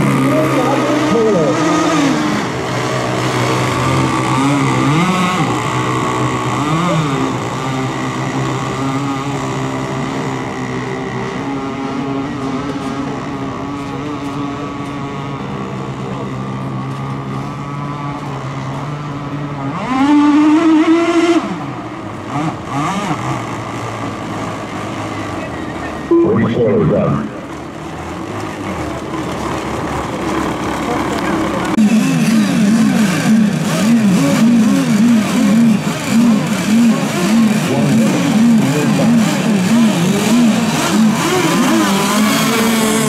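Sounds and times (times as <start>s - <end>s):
boat passing close: 0.0s - 43.0s
racing boat engines whining: 0.0s - 43.0s.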